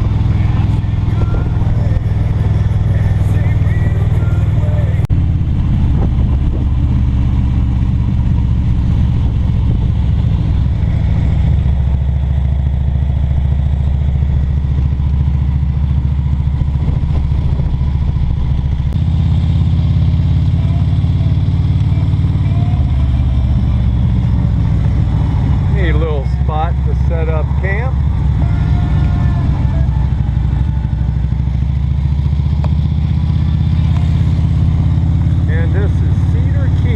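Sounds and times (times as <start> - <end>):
motorcycle engine cruising: 0.0 - 36.9.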